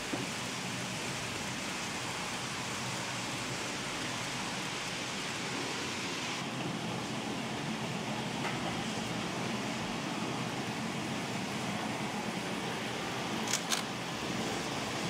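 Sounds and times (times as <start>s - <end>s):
model trains rushing hiss: 0.0s - 15.0s.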